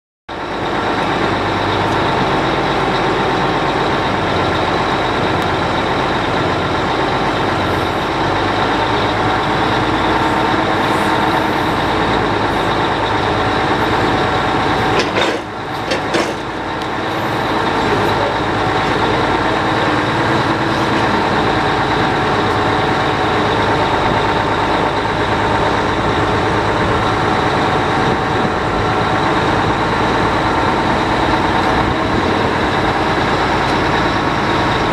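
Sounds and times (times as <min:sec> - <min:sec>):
truck engine running: 0:00.3 - 0:34.9
hydraulic whine: 0:00.5 - 0:34.9.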